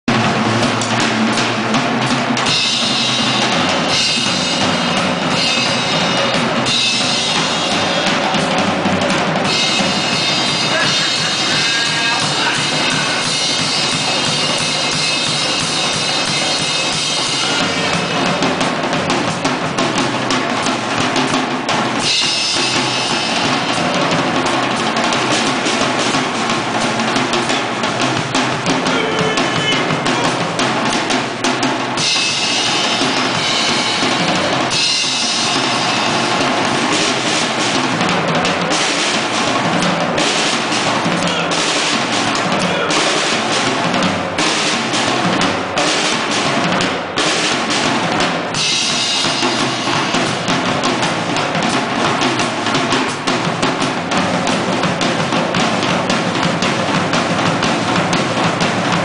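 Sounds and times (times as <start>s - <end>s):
drum kit playing rapid strokes: 0.0s - 59.0s.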